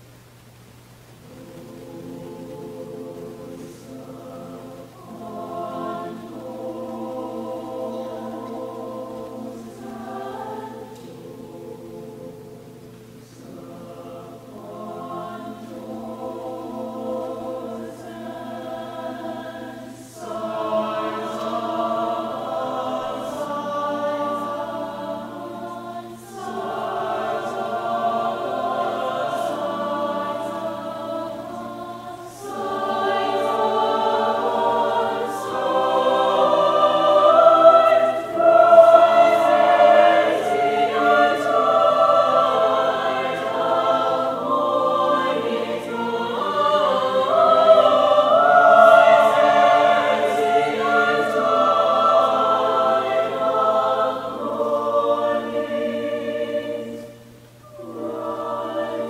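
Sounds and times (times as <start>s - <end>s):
mixed choir singing: 1.2s - 59.0s.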